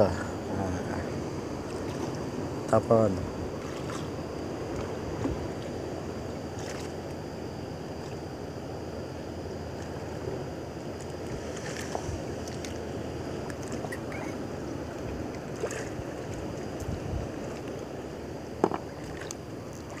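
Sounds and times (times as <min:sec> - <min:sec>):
sea water washing around boat: 0:00.0 - 0:20.0
steady wind: 0:00.0 - 0:20.0.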